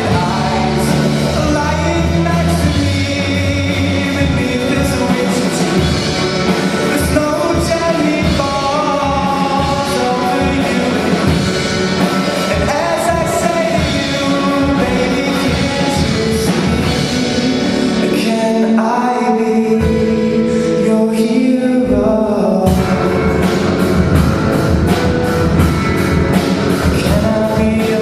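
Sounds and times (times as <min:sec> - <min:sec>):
person singing: 0:00.0 - 0:28.0
rock band playing: 0:00.0 - 0:28.0.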